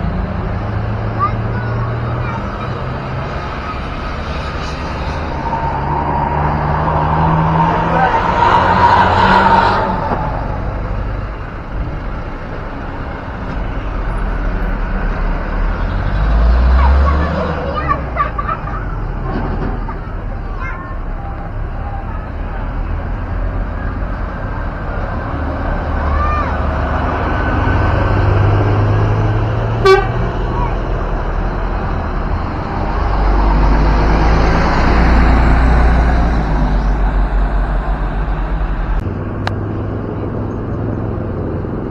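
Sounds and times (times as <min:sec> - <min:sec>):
bus engine rumbling: 0:00.0 - 0:41.9
road noise: 0:00.0 - 0:41.9.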